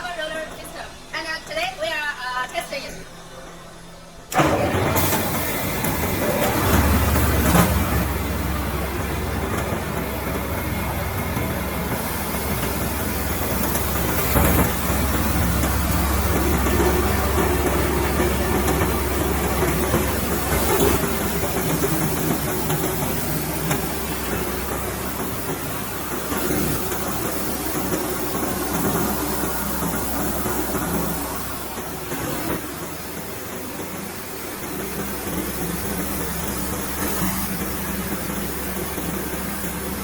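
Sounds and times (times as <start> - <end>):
rice milling machine humming: 3.0 - 40.0.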